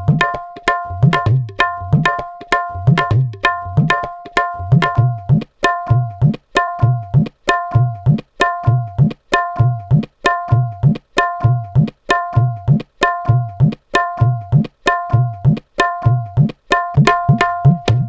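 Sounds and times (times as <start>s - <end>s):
tabla playing rhythm: 0.0s - 18.0s.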